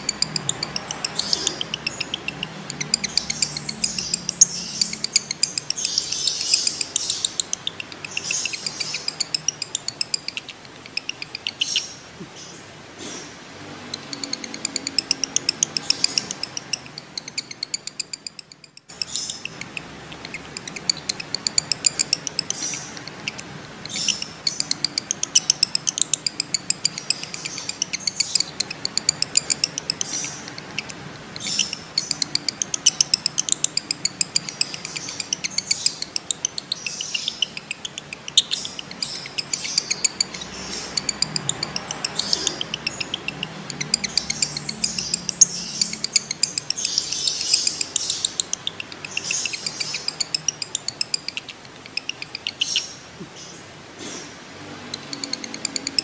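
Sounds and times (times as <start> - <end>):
lovebirds chattering high chirps: 0.0 - 56.0.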